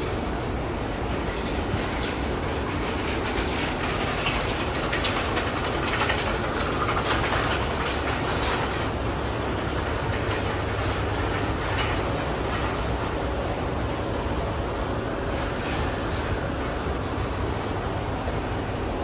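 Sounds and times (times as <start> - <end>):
air conditioner units humming: 0.0 - 19.0.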